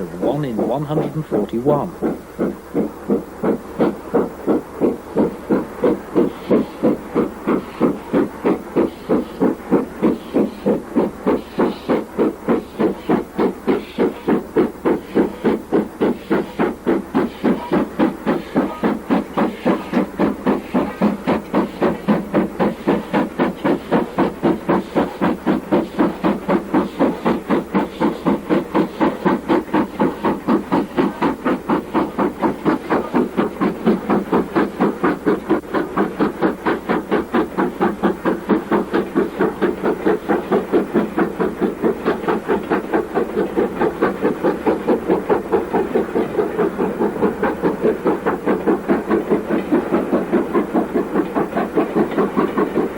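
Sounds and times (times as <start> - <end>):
steam hissing: 0.0 - 52.9
steam locomotive exhaust beats: 0.0 - 52.9.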